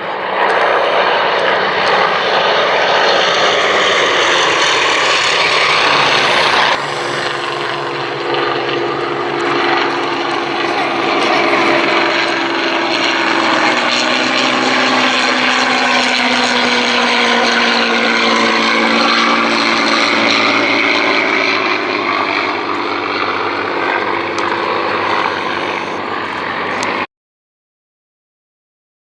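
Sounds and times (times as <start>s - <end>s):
propeller aircraft flying past: 0.0s - 27.1s.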